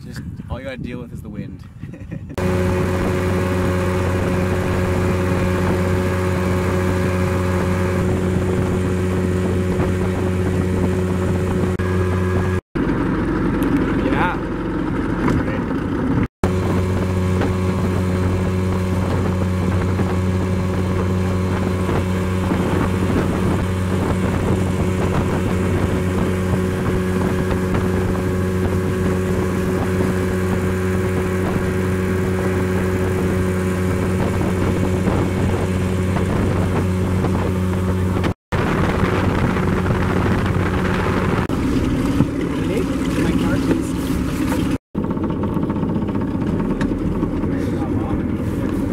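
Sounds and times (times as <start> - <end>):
wind buffeting microphone: 0.0 - 48.9
motorboat engine hum: 2.0 - 48.9.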